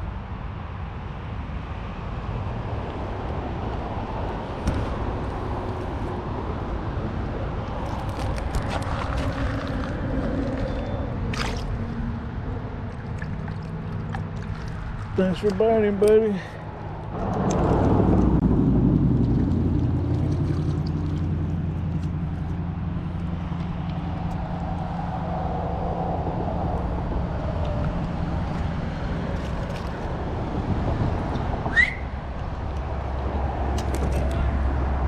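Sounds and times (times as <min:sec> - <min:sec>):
vehicle engine humming: 0:02.3 - 0:35.0.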